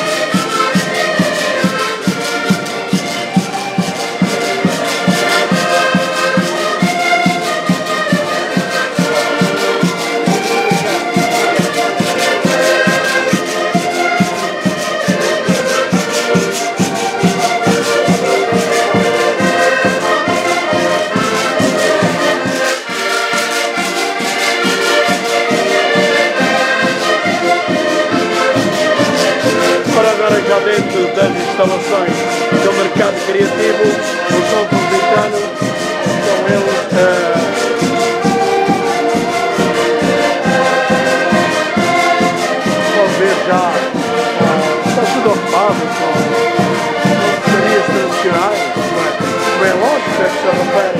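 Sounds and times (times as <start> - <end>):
accordion ensemble playing: 0.0 - 50.9.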